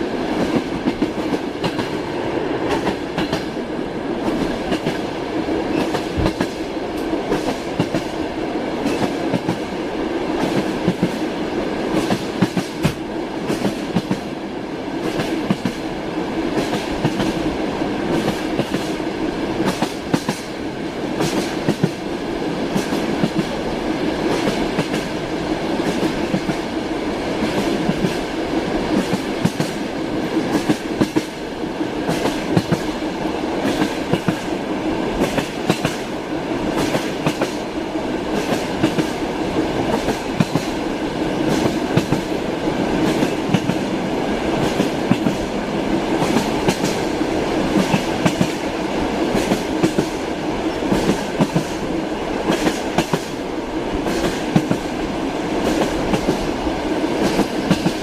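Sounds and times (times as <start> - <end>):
moving train rumble: 0.0 - 58.0
train wheels clickety-clack: 0.0 - 58.0.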